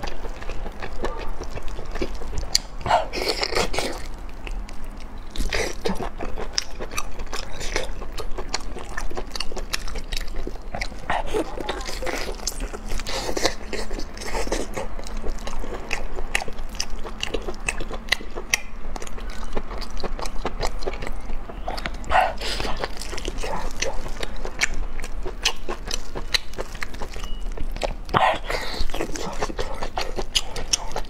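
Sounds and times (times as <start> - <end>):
wet chewing and biting: 0.0 - 31.0.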